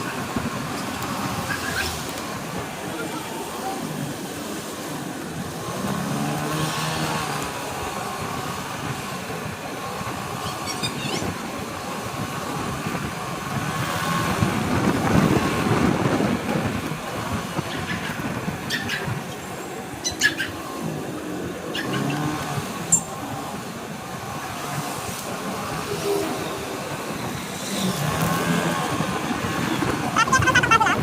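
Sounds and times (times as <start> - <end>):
road noise: 0.0 - 31.0
wind noise: 0.0 - 31.0.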